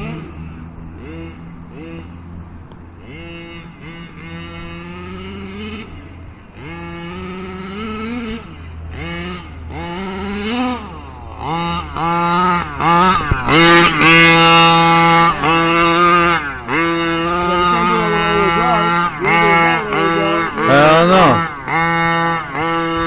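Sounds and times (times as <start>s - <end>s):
two-stroke engine revving: 0.0s - 23.0s.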